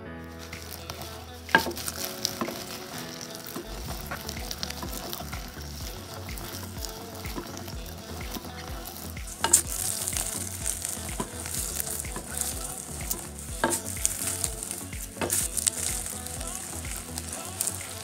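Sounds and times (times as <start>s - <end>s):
beans crunching in a mortar: 0.4s - 18.0s.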